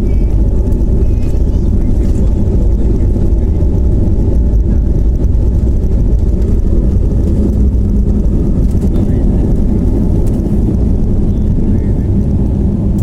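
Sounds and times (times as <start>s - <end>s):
airliner engine rumble: 0.0s - 13.0s
wheels rolling on runway: 0.0s - 13.0s.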